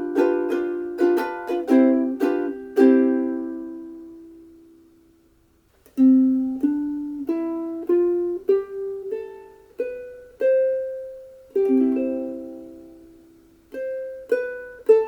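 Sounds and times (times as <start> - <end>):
ukulele chord ringing: 0.0 - 5.1, 5.9 - 15.0
ukulele chord strummed: 0.0 - 15.0
ukulele plucked notes: 0.0 - 15.0.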